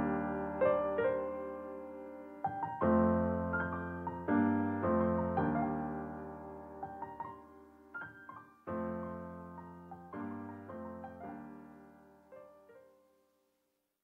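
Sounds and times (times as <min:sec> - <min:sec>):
piano chords ringing: 0:00.0 - 0:12.9.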